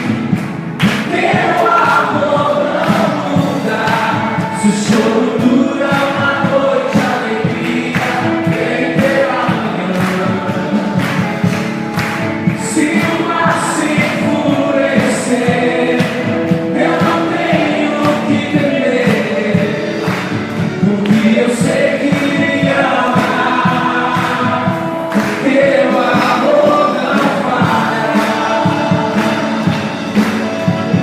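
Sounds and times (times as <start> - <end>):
accompanying music with steady beat: 0.0 - 31.0
group singing gospel song: 0.0 - 31.0.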